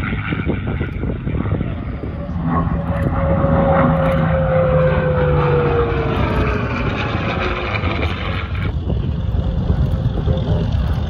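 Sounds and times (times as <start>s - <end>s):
propeller plane engine passing: 0.0s - 11.0s.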